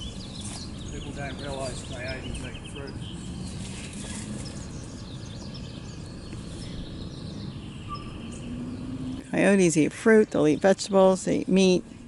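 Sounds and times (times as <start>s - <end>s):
songbird chirps: 0.0s - 12.0s.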